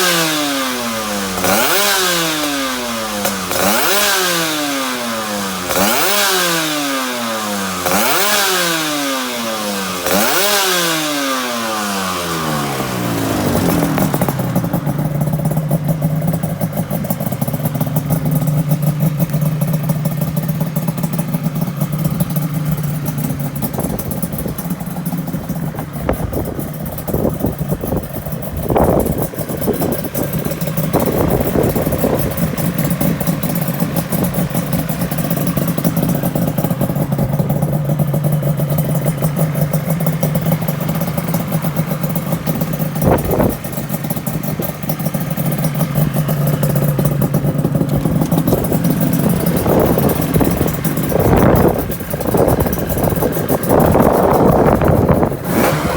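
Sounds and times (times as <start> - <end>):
engine throttle blips: 0.0 - 55.9
motorcycle engine idling: 0.0 - 55.9.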